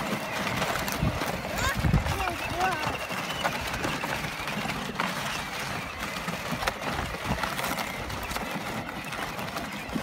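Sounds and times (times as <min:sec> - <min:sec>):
plastic wheels rattling on ground: 0:00.0 - 0:10.0.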